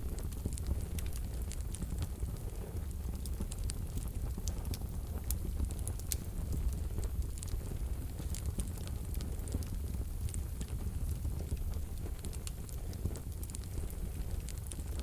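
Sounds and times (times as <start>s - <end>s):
wood fire crackling in a stove: 0.0s - 15.0s.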